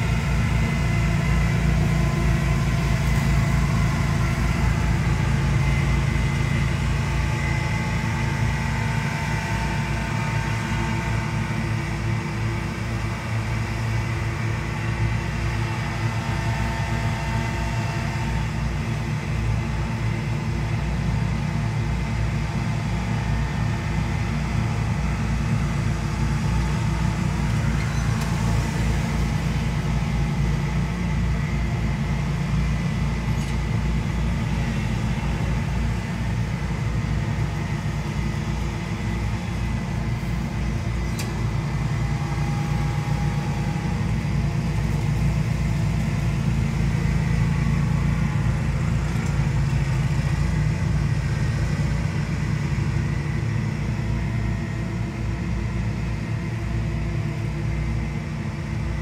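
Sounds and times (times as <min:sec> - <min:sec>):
leaf blower engine drone: 0:00.0 - 0:59.0.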